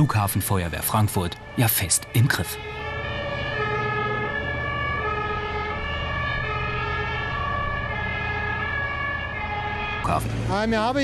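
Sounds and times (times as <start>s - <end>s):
two-tone siren: 0.2s - 10.2s.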